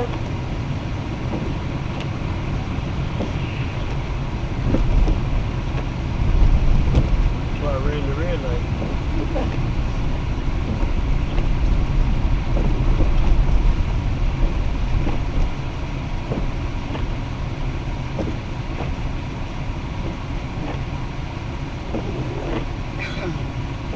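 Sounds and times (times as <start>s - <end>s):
car tyres and engine rumble: 0.0s - 23.9s.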